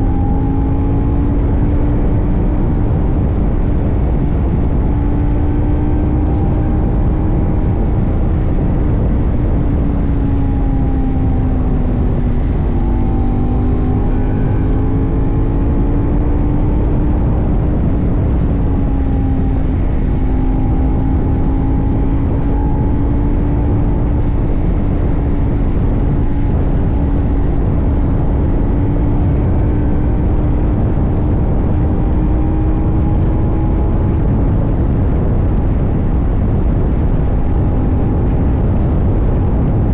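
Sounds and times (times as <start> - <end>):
motorcycle engine cruising: 0.0 - 39.9
wind rumble: 0.0 - 39.9.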